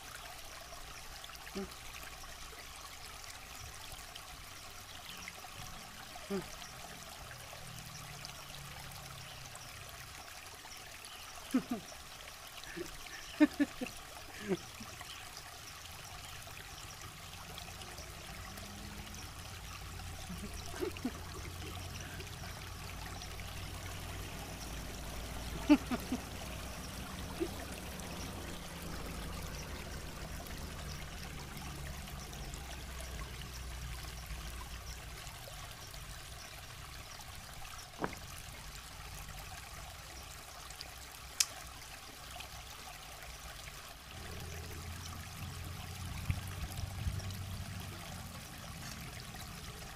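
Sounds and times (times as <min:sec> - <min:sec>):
river water over stones: 0:00.0 - 0:49.9.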